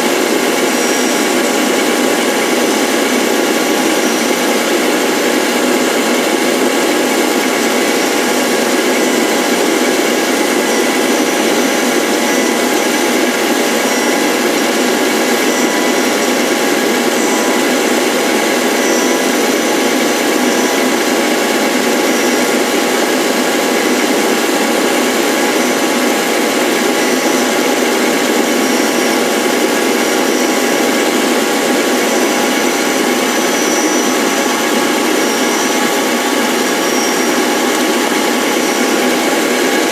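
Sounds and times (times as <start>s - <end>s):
cutter cutting wood: 0.0s - 39.9s
power tool motor running: 0.0s - 39.9s.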